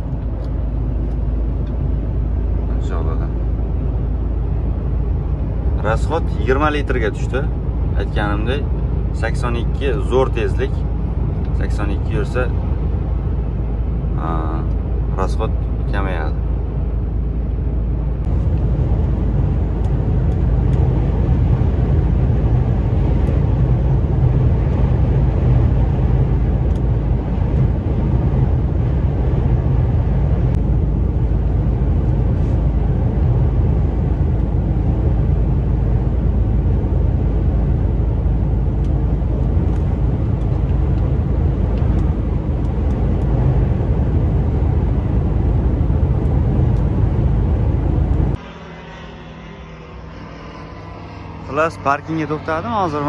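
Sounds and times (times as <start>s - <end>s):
road and tyre rumble: 0.0s - 53.0s
truck engine drone: 0.0s - 53.0s.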